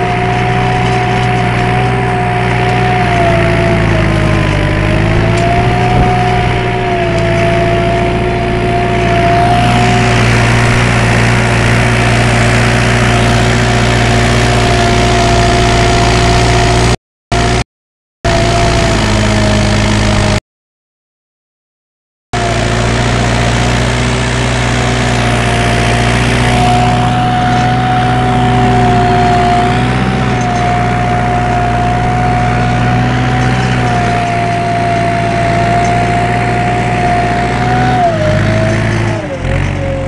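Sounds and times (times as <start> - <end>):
tractor engine under load: 0.0 - 17.6, 18.3 - 20.4, 22.4 - 40.0.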